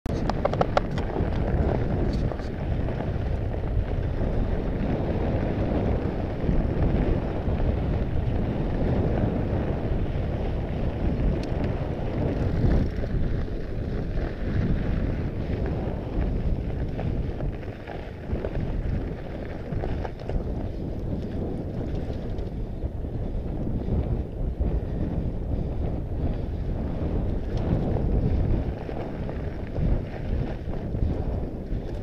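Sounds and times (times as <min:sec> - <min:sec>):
wind buffeting microphone: 0:00.0 - 0:32.0
tyres rolling on gravel: 0:00.1 - 0:32.0.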